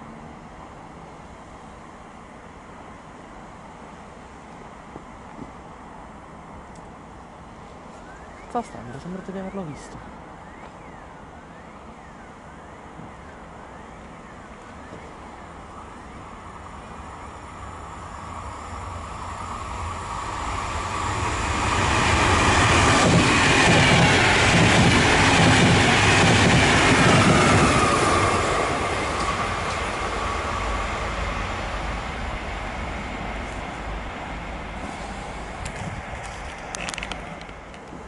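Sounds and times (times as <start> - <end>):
train rumble and wheel clatter: 0.0 - 38.0
train whine: 0.0 - 38.0.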